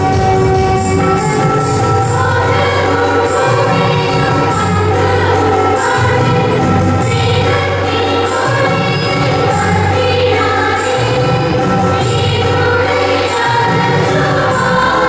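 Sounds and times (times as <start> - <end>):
instrumental accompaniment: 0.0 - 15.0
light percussion beat: 0.0 - 15.0
women's choir singing: 0.0 - 15.0.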